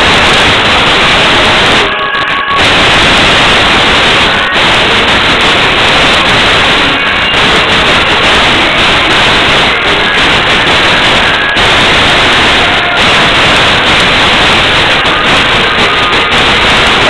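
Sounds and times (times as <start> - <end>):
distorted karaoke music: 0.0 - 17.0.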